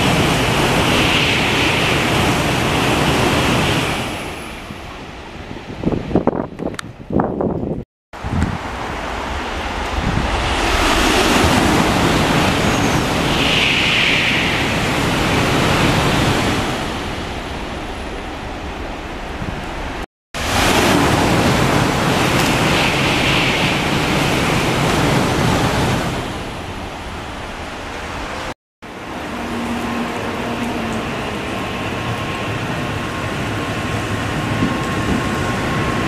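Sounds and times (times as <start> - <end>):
bullet train rushing past: 0.0 - 36.0.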